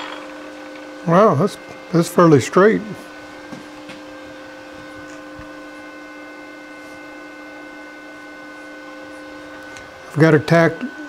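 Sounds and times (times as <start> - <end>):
electric hum of machinery: 0.0 - 11.0.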